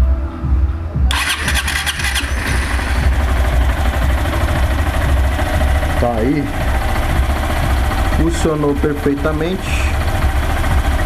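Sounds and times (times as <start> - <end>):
motorcycle engine starting and idling: 1.1 - 11.0.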